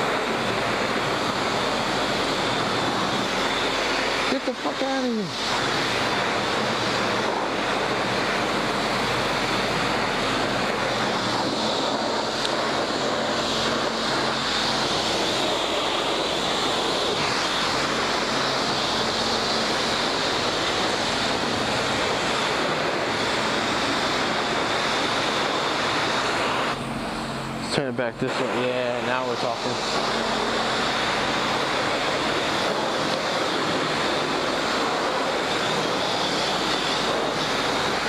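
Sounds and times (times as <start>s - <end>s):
pressure washer spray hissing: 0.0s - 38.0s.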